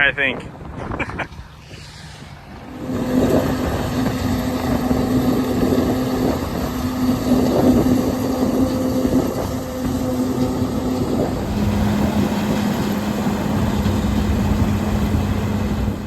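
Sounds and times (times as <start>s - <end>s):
heavy farm machinery humming: 1.3s - 16.0s.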